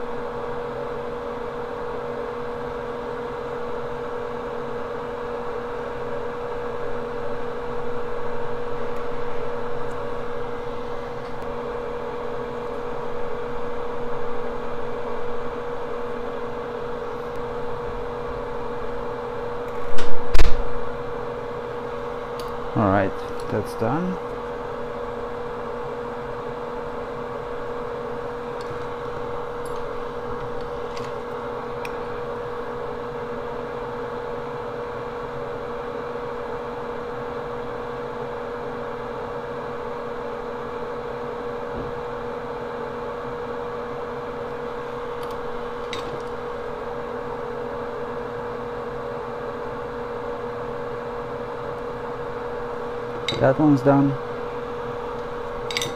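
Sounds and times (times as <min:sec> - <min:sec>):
fan or motor humming: 0:00.0 - 0:55.9.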